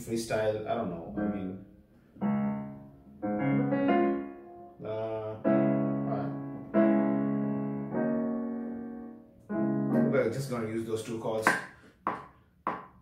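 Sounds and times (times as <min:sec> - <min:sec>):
piano chords ringing: 0:00.1 - 0:11.5.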